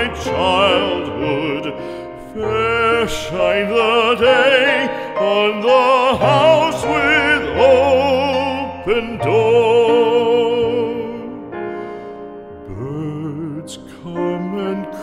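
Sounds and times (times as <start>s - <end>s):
classical solo singing: 0.0s - 15.0s.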